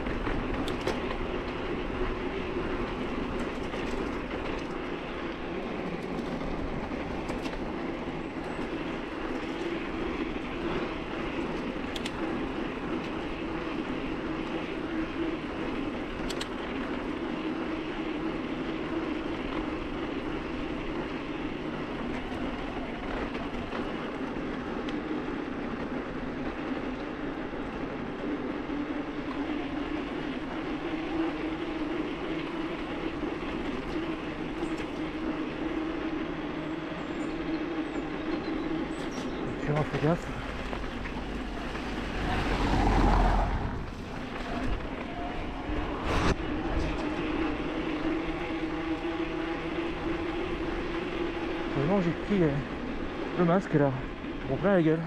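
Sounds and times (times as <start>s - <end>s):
bike clicking: 0.0s - 55.0s
mountain bike rolling: 0.0s - 55.0s.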